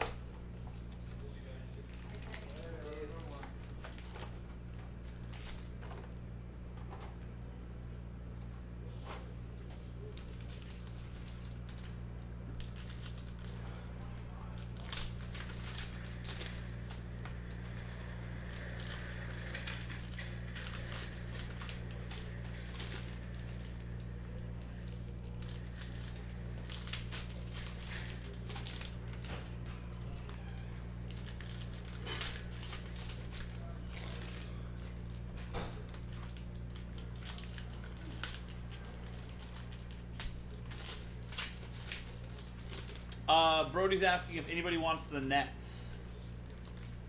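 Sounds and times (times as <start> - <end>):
steady low hum: 0.0 - 47.0
card pack wrappers crinkling: 0.8 - 6.1, 8.9 - 43.3, 46.0 - 47.0.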